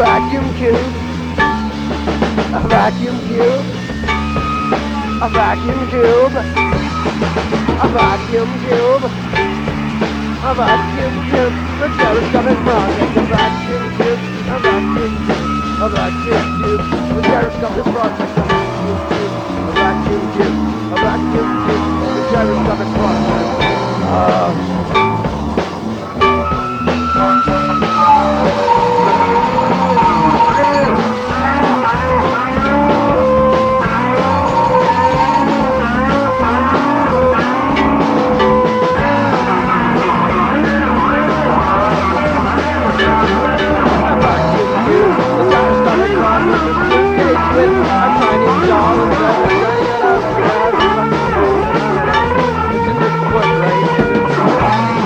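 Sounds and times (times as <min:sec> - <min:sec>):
psychedelic rock with guitar: 0:00.0 - 0:55.0.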